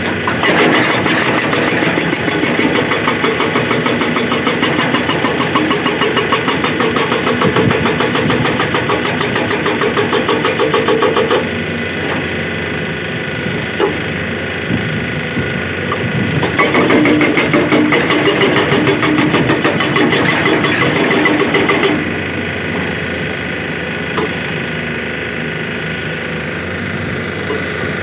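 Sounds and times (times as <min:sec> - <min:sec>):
excavator engine running: 0:00.0 - 0:28.0
hydraulic rock breaker hammering rock: 0:00.0 - 0:28.0.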